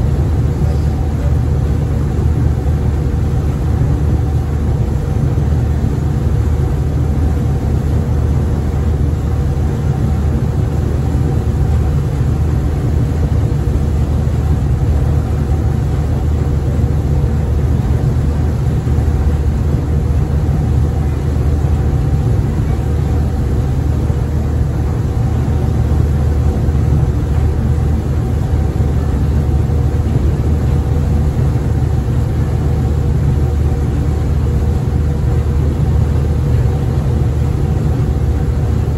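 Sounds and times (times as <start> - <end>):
faint steady hum: 0.0 - 38.9
ferry engine low drone: 0.0 - 38.9.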